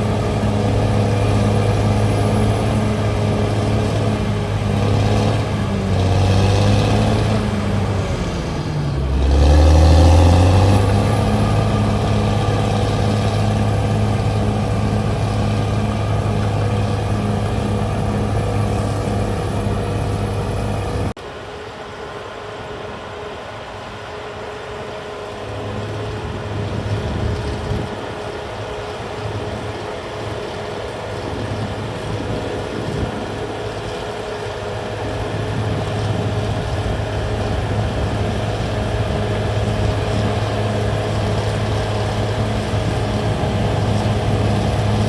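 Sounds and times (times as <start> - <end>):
bulldozer diesel engine running: 0.0 - 21.2, 25.0 - 45.0.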